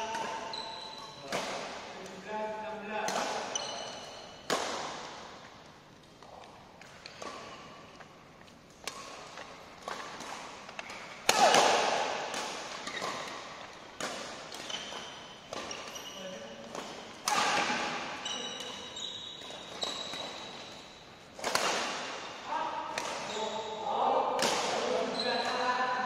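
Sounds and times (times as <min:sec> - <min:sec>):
racket hitting shuttlecock: 0:00.0 - 0:00.6, 0:01.2 - 0:02.2, 0:03.0 - 0:25.6.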